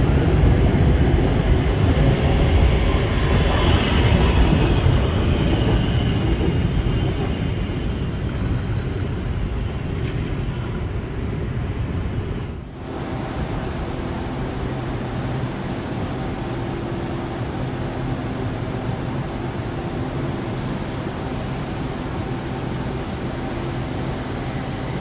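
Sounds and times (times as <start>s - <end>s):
train wheel and rail rumble: 0.0s - 25.0s.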